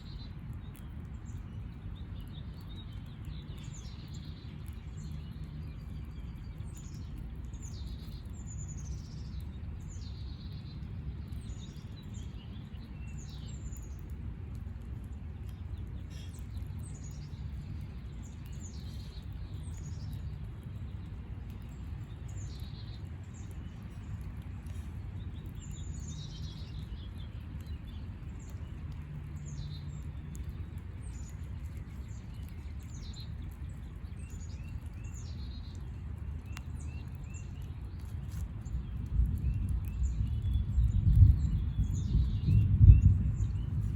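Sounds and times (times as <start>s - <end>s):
small birds chirping: 0.0s - 43.9s
steady low rumble: 0.0s - 43.9s.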